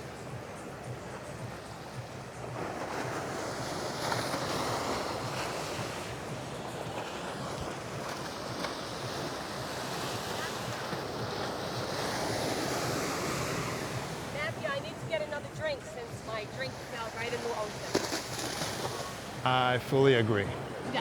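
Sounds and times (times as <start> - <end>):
wind buffeting microphone: 0.0 - 19.5
sea waves washing onto beach: 0.0 - 21.0.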